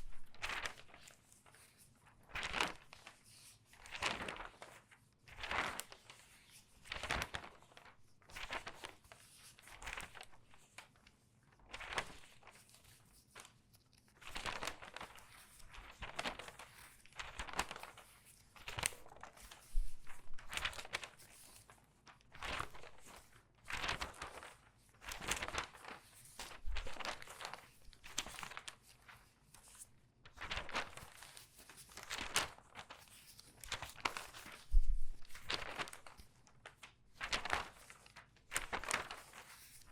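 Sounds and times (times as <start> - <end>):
newspaper pages rustling: 0.0 - 39.9.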